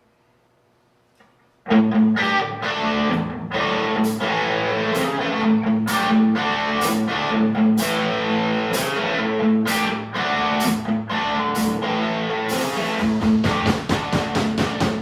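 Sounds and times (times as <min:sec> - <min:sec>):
guitar strumming chords: 0:01.7 - 0:15.0.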